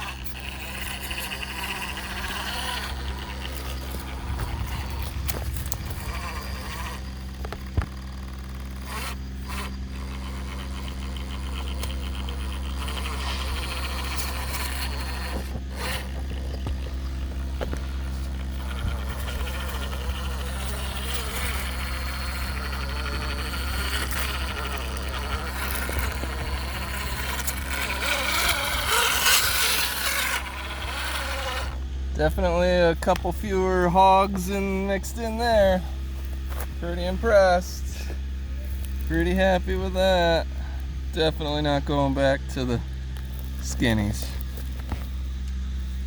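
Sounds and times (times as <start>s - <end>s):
electric motor whining: 0.0s - 46.0s.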